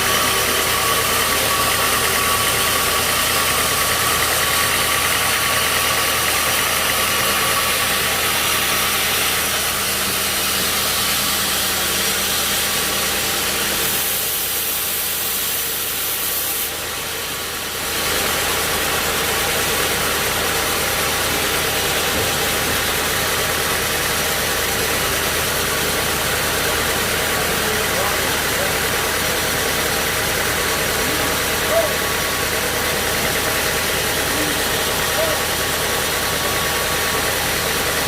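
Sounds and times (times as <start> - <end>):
sawmill machinery drone: 0.0 - 38.0.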